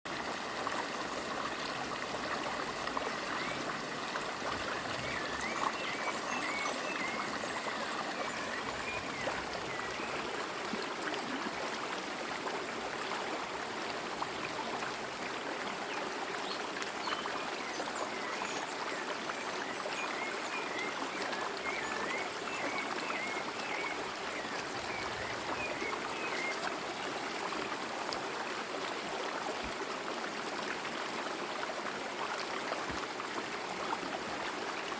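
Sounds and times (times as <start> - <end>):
stream rushing water: 0.1 - 34.9.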